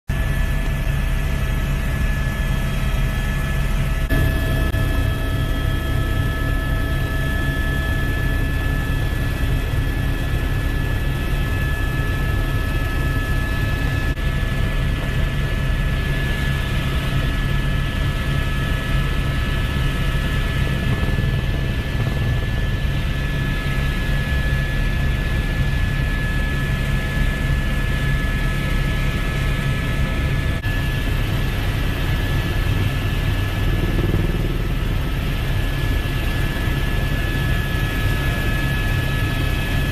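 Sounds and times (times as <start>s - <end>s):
aircraft engine drone: 0.1s - 39.9s
constant high whine: 0.1s - 39.9s.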